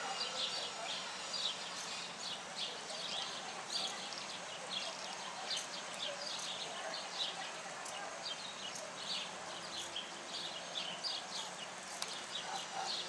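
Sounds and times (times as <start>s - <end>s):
faint outdoor hiss: 0.0s - 13.0s
small birds chirping: 0.0s - 13.0s.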